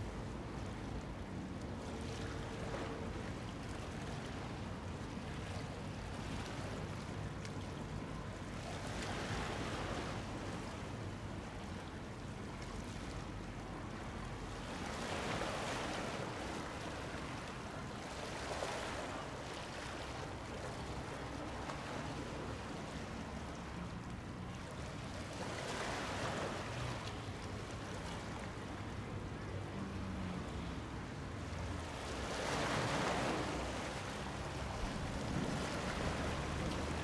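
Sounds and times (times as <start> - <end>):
small waves washing in: 0.0 - 37.0.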